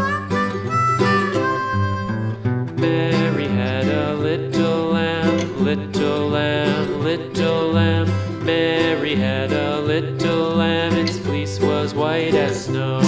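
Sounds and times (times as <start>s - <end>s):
harmonica-like melody: 0.0s - 13.0s
plucked guitar picking: 0.0s - 13.0s.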